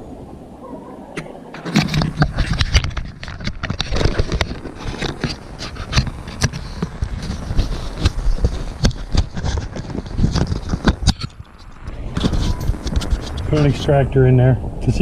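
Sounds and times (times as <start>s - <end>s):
object handling clicks and scraping: 1.2s - 13.7s.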